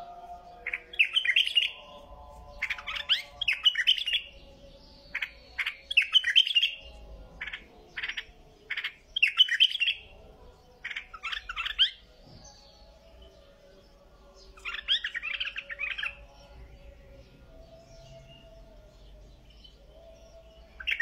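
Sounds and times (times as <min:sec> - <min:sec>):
bird chirping in bursts: 0:00.5 - 0:21.0.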